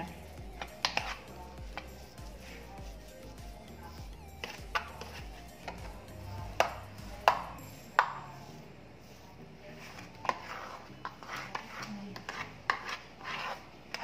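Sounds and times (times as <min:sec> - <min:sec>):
spoon scraping dough in metal tray: 0:00.1 - 0:14.0.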